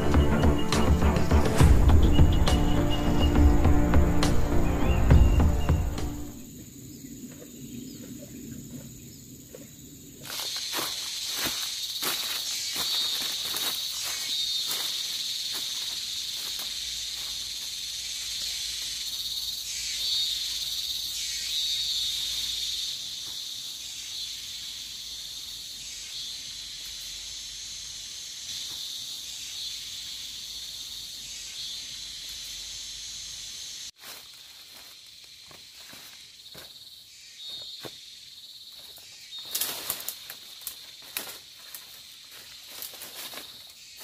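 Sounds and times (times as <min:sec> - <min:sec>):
insects chorus shrilling: 0:00.0 - 0:44.0.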